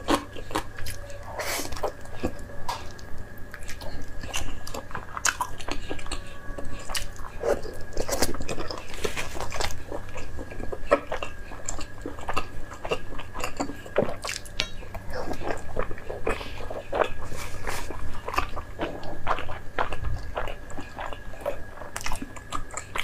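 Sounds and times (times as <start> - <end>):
person chewing with wet smacking: 0.0 - 23.0.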